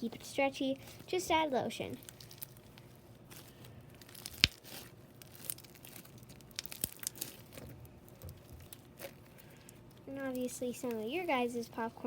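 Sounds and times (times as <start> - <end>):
slime crinkling and crackling: 0.0 - 12.0.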